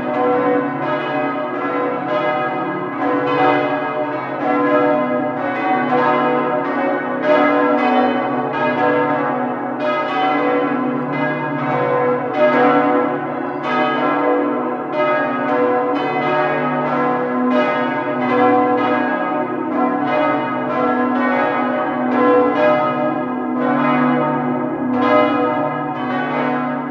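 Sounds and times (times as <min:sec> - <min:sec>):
church bells pealing: 0:00.0 - 0:26.9.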